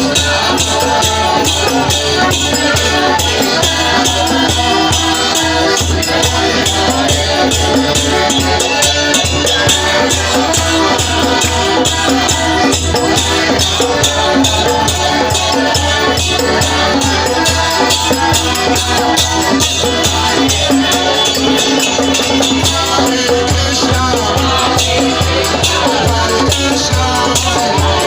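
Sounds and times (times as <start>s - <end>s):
drum beat: 0.0s - 28.0s
jingling hand percussion: 0.0s - 28.0s.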